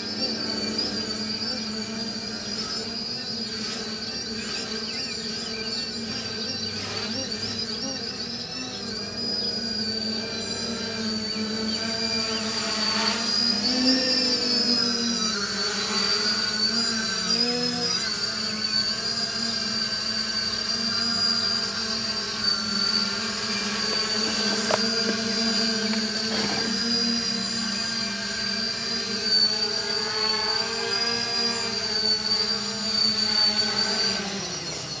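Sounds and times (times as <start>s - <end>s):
drone buzzing with high whine: 0.0s - 35.0s.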